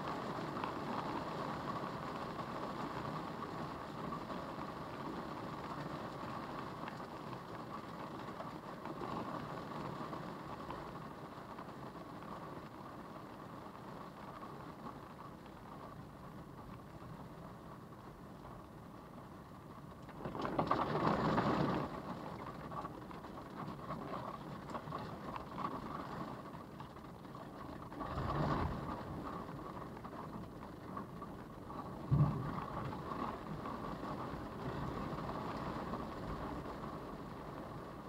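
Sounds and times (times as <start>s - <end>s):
wind and rain buffeting a car: 0.0s - 38.0s.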